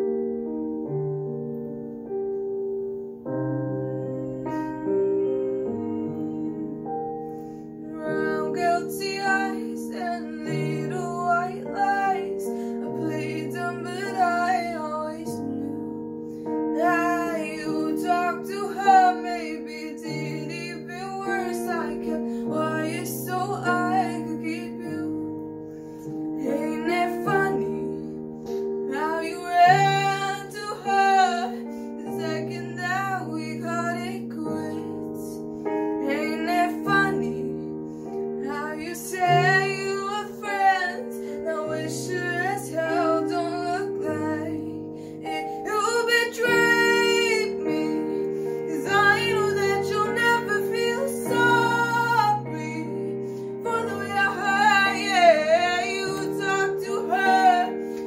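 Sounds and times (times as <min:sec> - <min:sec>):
piano chords: 0:00.0 - 0:58.0
girl singing pop ballad: 0:03.3 - 0:58.0.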